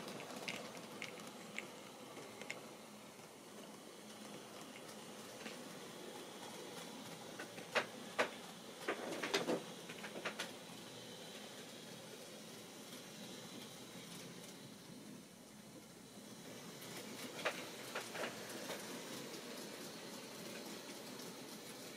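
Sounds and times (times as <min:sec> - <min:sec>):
faint steady hiss: 0:00.0 - 0:21.9.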